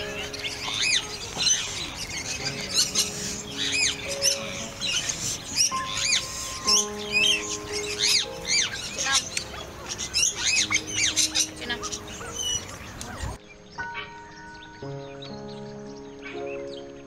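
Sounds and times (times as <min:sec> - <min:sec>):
background music with held chords: 0:00.0 - 0:17.0
birds chirping: 0:00.0 - 0:17.0.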